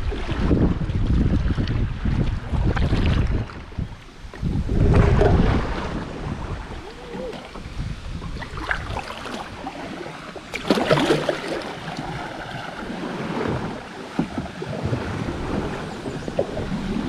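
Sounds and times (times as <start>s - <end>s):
water splashing and rushing: 0.0s - 17.0s
wind buffeting microphone: 0.0s - 17.0s.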